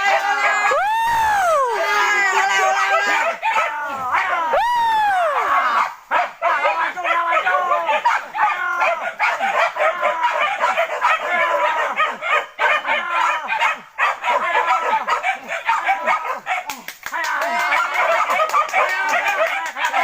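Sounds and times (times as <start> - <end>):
dogs barking and yelping: 2.1 - 4.5, 5.2 - 16.8, 17.4 - 20.0.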